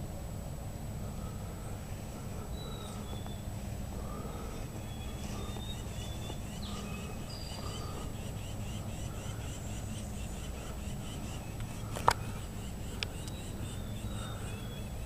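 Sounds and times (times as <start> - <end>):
steady low rumble: 0.0 - 15.0
songbirds singing and chirping: 0.8 - 15.0.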